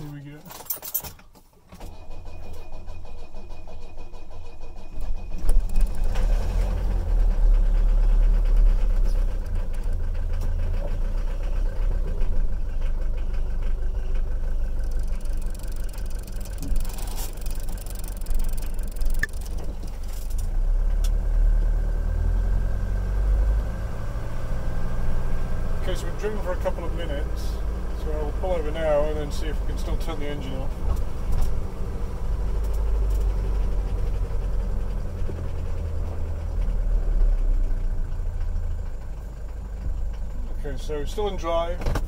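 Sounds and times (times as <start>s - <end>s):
diesel engine running: 1.8s - 42.0s.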